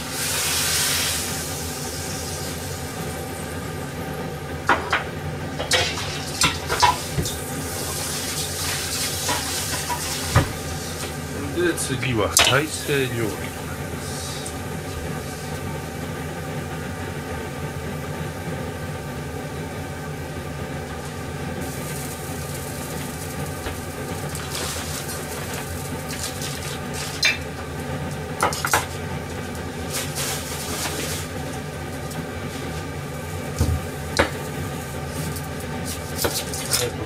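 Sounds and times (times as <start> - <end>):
oil sizzling: 0.0 - 37.0
steady hum: 0.0 - 37.0.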